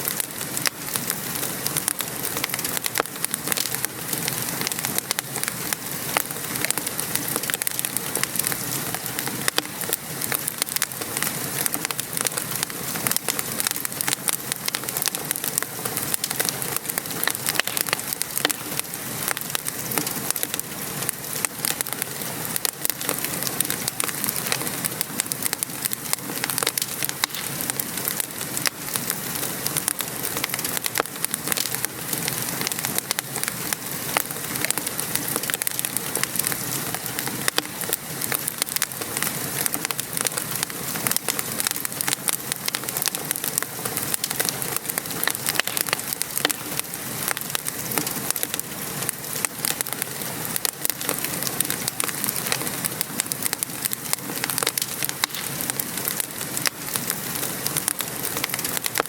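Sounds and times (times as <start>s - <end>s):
fireplace fire crackling: 0.0s - 59.0s
gentle rain hiss: 0.0s - 59.0s.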